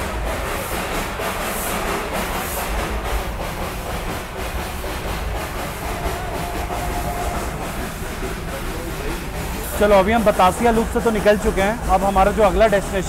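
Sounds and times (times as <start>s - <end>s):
steam hiss: 0.0s - 13.0s
train rumble: 0.0s - 13.0s.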